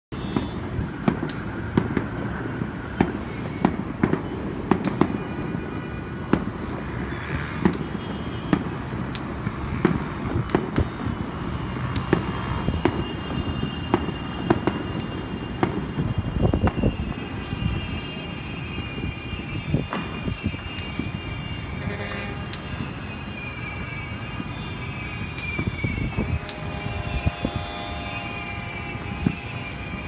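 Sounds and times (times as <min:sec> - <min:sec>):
distant fireworks bangs: 0:00.2 - 0:23.2, 0:23.8 - 0:30.0.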